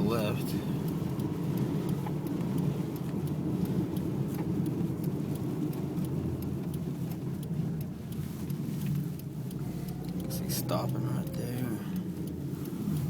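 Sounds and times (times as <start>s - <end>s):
car engine and tyres on snow: 0.0s - 13.0s
faint ticks: 0.0s - 13.0s.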